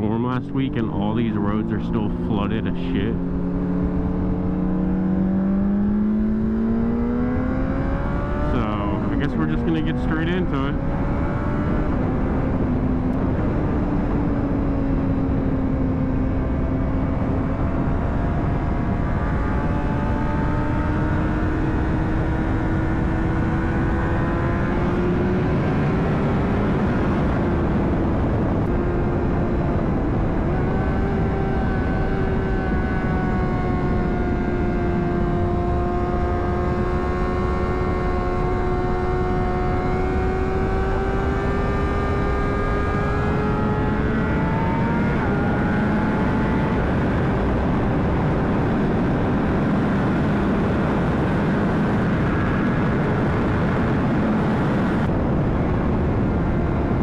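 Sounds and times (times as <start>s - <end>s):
heavy wind noise: 0.0s - 57.0s.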